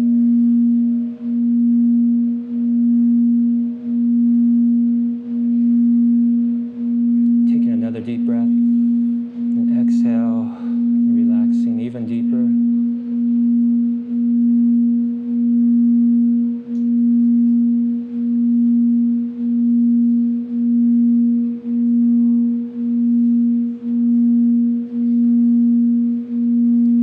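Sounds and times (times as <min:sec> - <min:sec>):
singing bowl sustained tone: 0:00.0 - 0:27.0.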